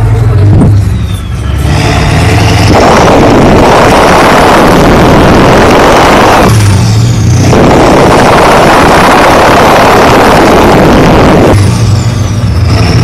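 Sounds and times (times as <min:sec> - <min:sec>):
diesel engine revving hard: 0:00.0 - 0:13.0.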